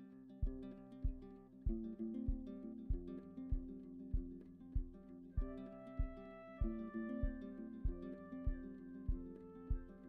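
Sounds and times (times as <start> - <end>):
strummed acoustic guitar: 0.0 - 10.0
thumping beat: 0.4 - 10.0.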